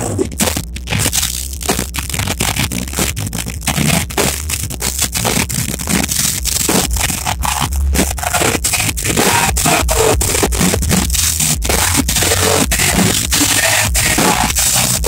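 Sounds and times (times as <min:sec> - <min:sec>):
distorted live rock band with singer: 0:00.0 - 0:15.0.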